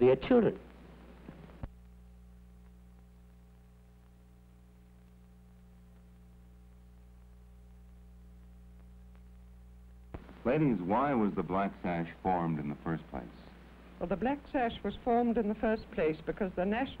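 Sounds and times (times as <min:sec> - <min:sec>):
low electrical mains hum: 0:00.0 - 0:17.0.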